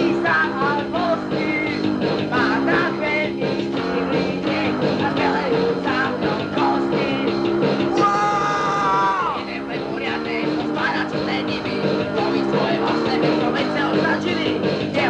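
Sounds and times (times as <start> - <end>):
lo-fi punk rock band playing: 0.0 - 15.0.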